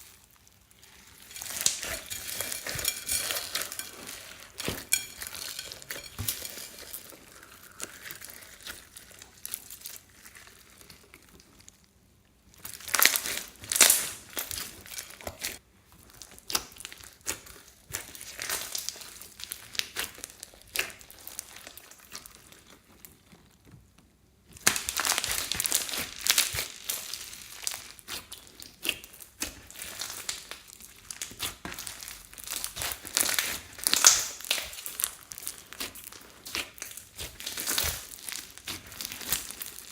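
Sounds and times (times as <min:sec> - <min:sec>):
slime crackling and popping: 0:00.0 - 0:11.8, 0:12.5 - 0:23.6, 0:24.5 - 0:39.9.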